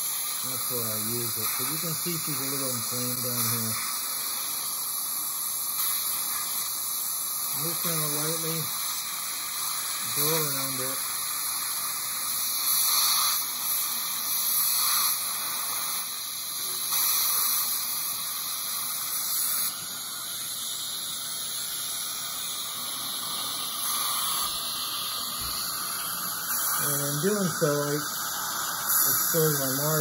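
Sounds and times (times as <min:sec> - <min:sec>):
dental suction hissing: 0:00.0 - 0:30.0.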